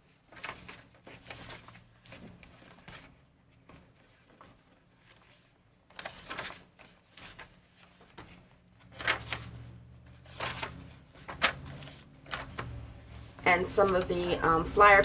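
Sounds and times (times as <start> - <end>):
paper pages rustling: 0.0 - 15.0.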